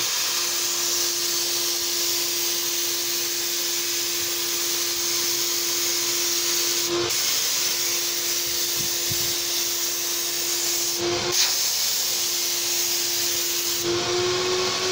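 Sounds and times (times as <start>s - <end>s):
paint spray gun hissing: 0.0s - 13.9s.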